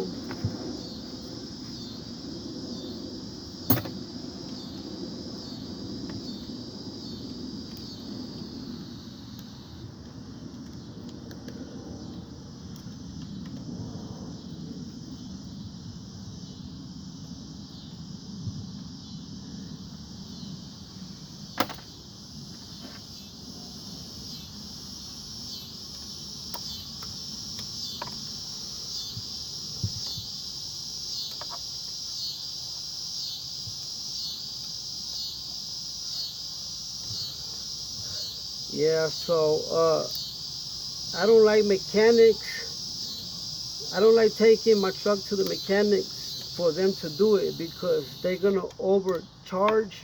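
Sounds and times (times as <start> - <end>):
insects chirping: 0.0 - 50.0.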